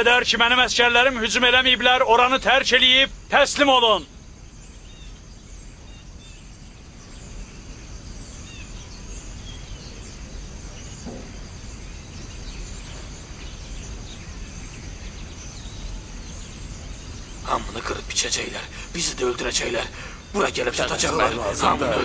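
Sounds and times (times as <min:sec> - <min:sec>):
bird chirps: 0:00.0 - 0:22.0
steady hiss: 0:00.0 - 0:22.0.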